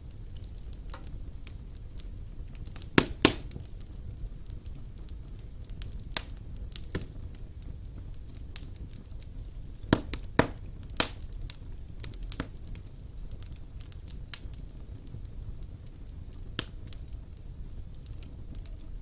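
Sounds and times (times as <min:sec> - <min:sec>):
wood fire popping: 0:00.0 - 0:19.0.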